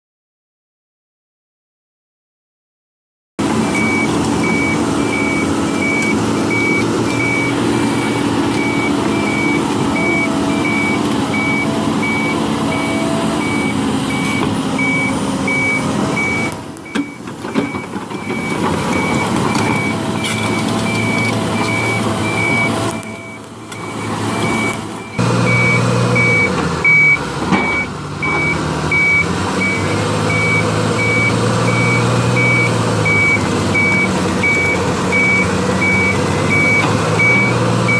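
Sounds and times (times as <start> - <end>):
heavy machine engine running: 3.4 - 37.9
backup alarm beeping: 3.6 - 37.9.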